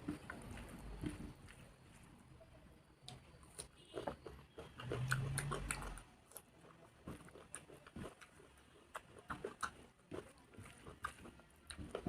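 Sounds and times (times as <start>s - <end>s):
chewing and wet mouth sounds: 0.0s - 2.3s, 3.0s - 12.0s.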